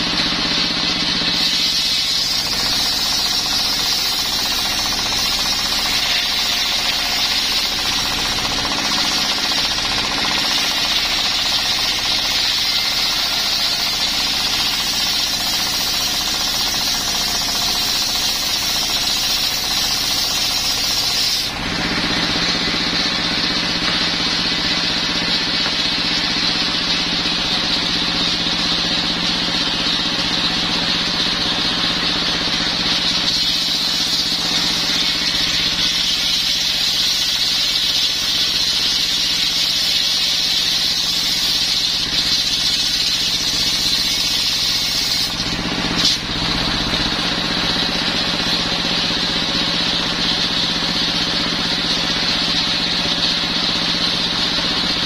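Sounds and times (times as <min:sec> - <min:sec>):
circular saw ripping wood: 0:00.0 - 0:55.0
diesel engine running: 0:00.0 - 0:55.0.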